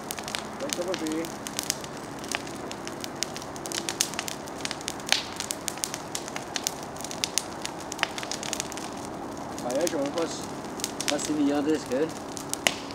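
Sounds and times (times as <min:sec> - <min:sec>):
campfire crackling and snapping: 0:00.0 - 0:12.9.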